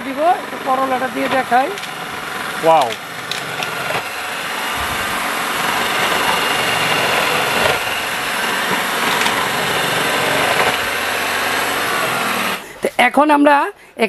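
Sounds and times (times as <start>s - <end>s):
food processor motor running: 0.0s - 12.8s.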